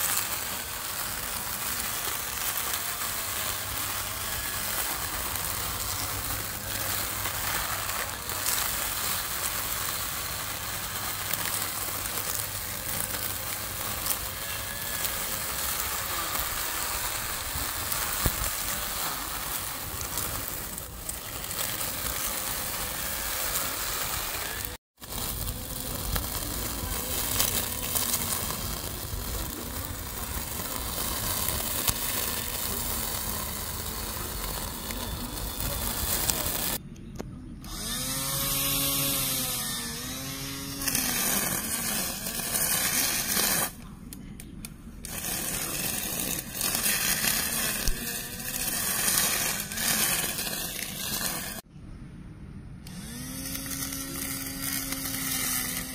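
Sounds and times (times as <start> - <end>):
electric grass trimmer cutting: 0.0 - 36.8, 37.6 - 43.8, 45.0 - 51.7, 52.8 - 55.9.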